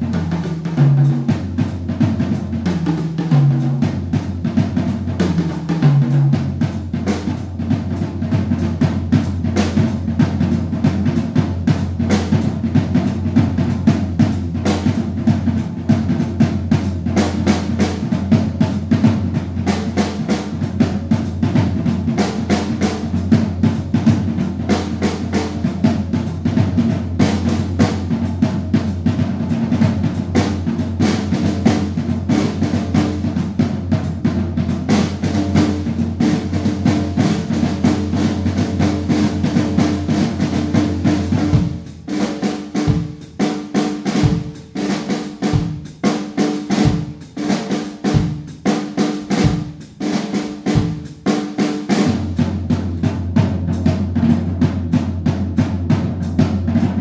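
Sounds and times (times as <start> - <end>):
drum kit solo: 0.0 - 57.0.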